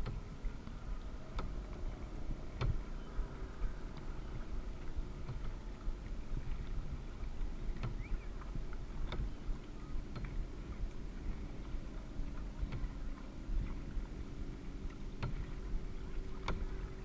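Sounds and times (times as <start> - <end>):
paddle and boat knocks: 0.0 - 2.9, 3.9 - 17.0
water rumbling against hull: 0.0 - 17.0.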